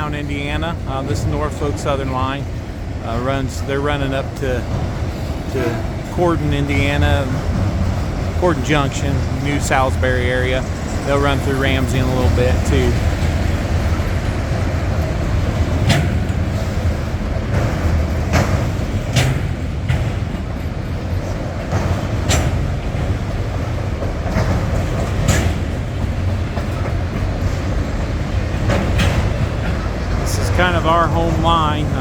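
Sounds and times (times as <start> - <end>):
freight train rumbling: 0.0 - 32.0
train cars clacking: 0.0 - 32.0.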